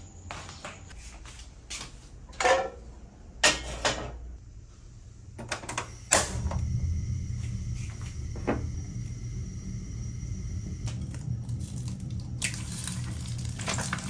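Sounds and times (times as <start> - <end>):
gas burner flame rumbling: 2.4 - 14.0.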